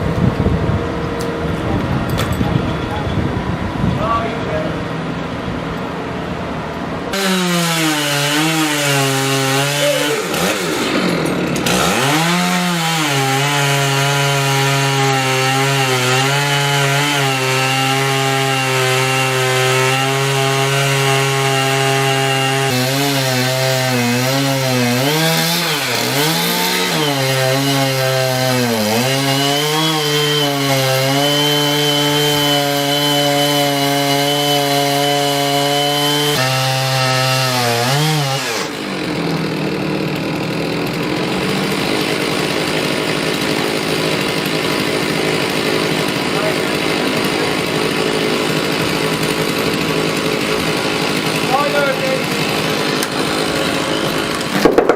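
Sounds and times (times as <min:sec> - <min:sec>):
chainsaw running at high speed: 0:07.1 - 0:54.9.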